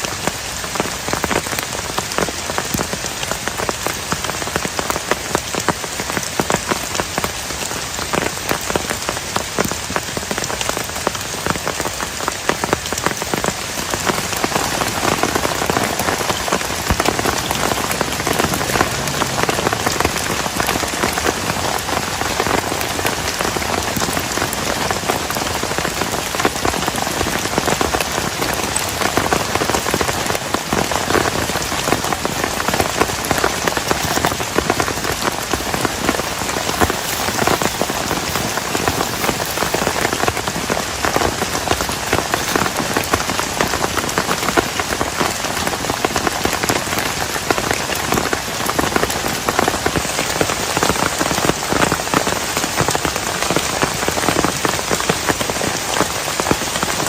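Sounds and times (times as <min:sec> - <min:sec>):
heavy rain: 0:00.0 - 0:57.0
raindrops hitting surface: 0:00.0 - 0:57.0.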